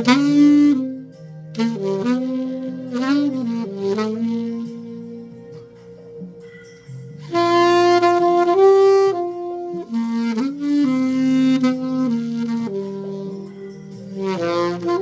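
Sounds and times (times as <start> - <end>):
alto saxophone slow melody: 0.0 - 15.0.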